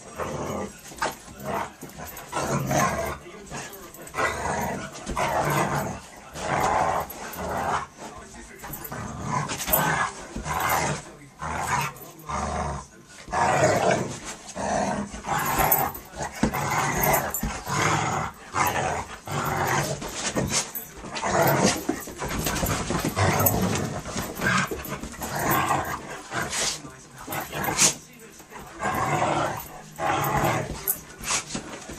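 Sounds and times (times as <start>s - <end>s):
dogs growling: 0.0s - 31.9s.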